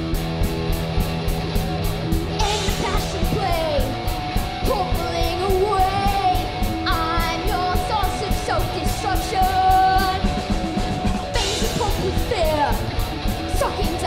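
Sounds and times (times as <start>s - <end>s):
distorted electric guitars: 0.0s - 14.0s
drums: 0.0s - 14.0s.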